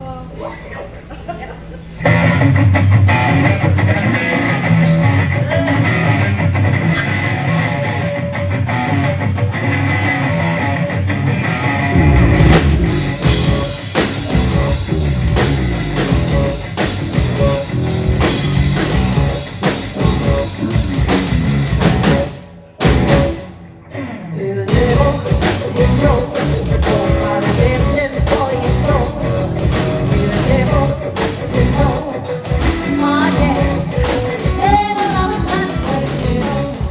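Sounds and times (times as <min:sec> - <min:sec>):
rock band playing live: 0:02.0 - 0:36.9.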